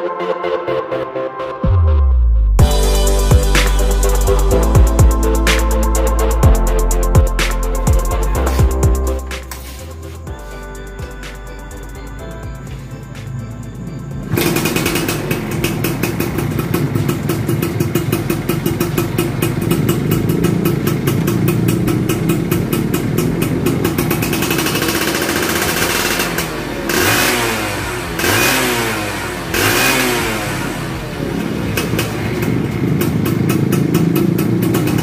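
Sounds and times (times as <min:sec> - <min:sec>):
motorcycle engine idling and revving: 0:02.5 - 0:35.0.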